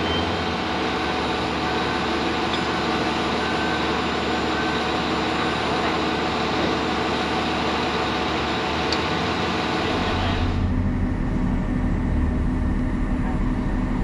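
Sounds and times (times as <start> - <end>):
diesel truck engine drone: 0.0 - 14.0.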